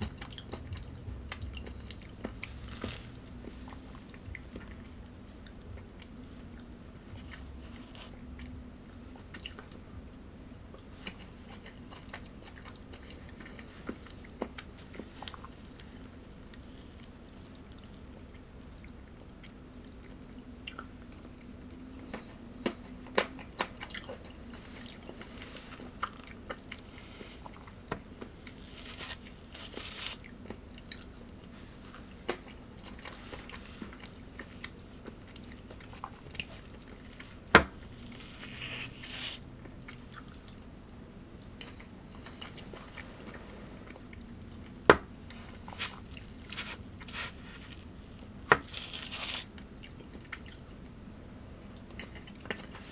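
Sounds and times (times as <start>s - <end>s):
person chewing crunchy food: 0.0s - 8.6s, 10.6s - 40.7s, 41.4s - 50.8s.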